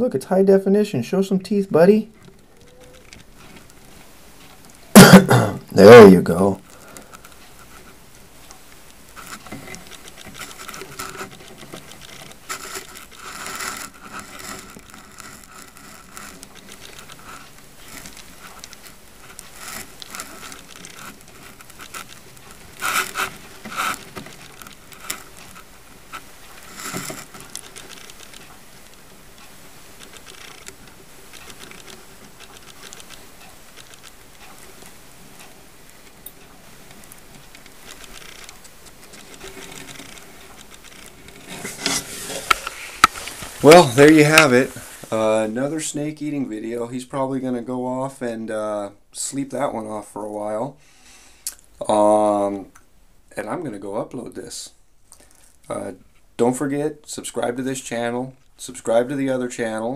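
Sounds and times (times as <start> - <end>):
faint rustling: 0.8 - 59.9.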